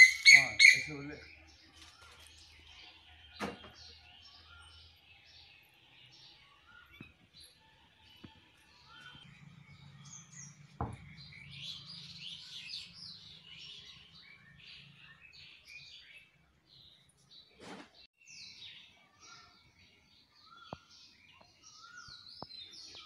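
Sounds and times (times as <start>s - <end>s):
birds chirping and twittering: 0.0s - 23.0s.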